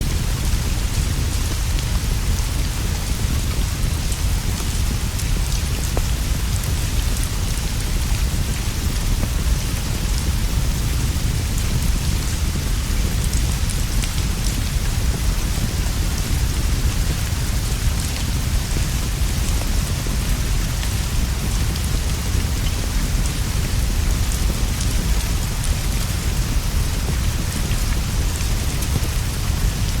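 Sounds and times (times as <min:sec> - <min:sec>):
heavy rainfall: 0:00.0 - 0:30.0.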